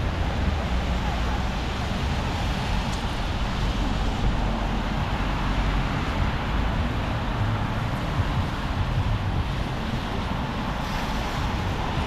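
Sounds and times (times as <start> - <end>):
traffic engine rumble: 0.0 - 12.0
tyres hissing on wet road: 0.0 - 12.0.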